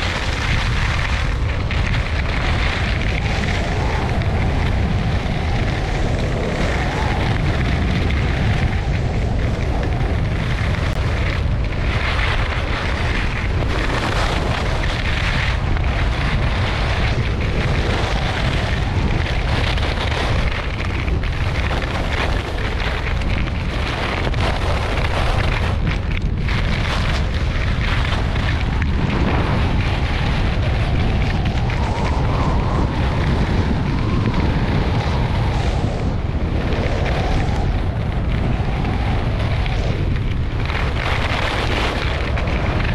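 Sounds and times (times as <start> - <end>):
skis scraping on snow: 0.0 - 42.9
wind rumble on microphone: 0.0 - 42.9.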